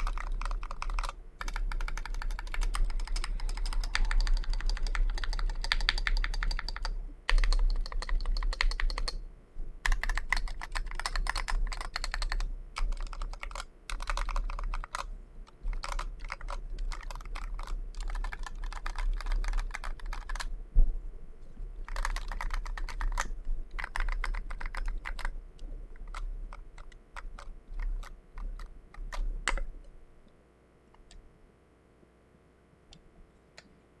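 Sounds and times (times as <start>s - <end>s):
typing on mechanical keyboard: 0.0s - 9.2s, 9.8s - 20.5s, 21.8s - 29.8s.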